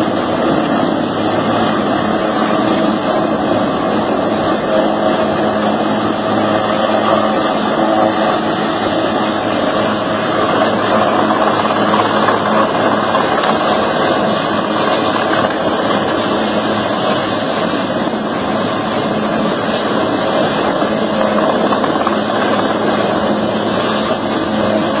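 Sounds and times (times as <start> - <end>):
helicopter rotor drone: 0.0 - 25.0.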